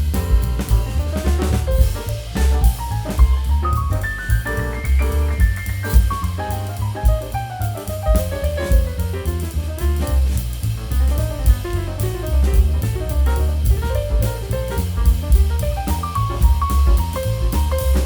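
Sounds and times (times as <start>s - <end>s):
bass line: 0.0s - 18.0s
drum kit beat: 0.0s - 18.0s
piano-like melody: 0.0s - 18.0s
upbeat jazzy tune: 0.0s - 18.0s.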